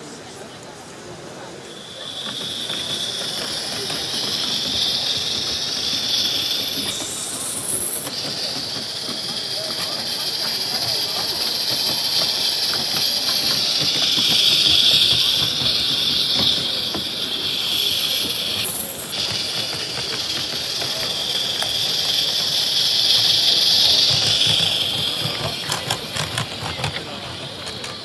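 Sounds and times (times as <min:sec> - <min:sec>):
model steam locomotive hissing: 0:00.0 - 0:28.0
wagon wheel clicks on track: 0:01.8 - 0:28.0.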